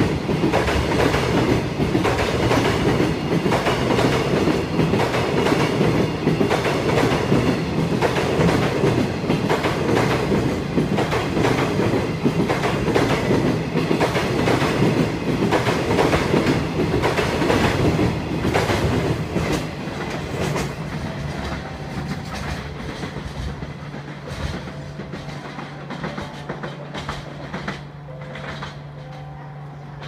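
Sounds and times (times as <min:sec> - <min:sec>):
train wheels clattering over rail joints: 0:00.0 - 0:28.8.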